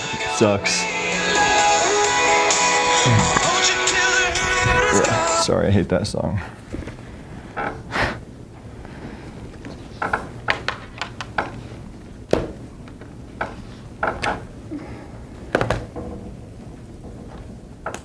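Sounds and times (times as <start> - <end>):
steady room hum: 0.0 - 18.0.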